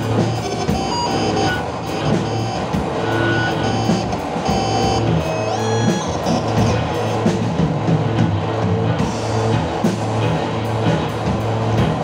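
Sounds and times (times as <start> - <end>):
drum and cymbal strokes: 0.0 - 12.0.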